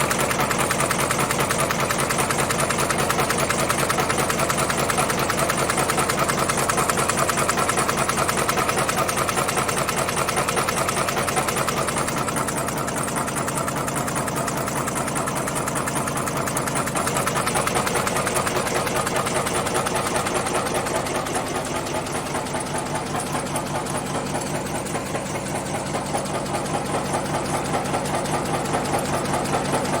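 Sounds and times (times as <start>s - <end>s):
forging machine rapid strokes: 0.0s - 30.0s.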